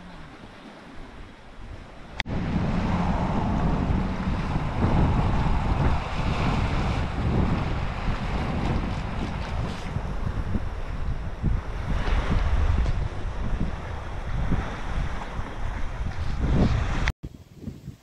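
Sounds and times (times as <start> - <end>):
wind buffeting microphone: 0.8 - 18.0.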